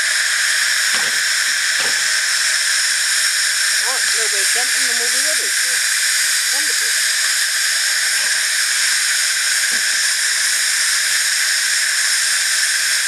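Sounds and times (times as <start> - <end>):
steam hissing from locomotive: 0.0 - 13.0.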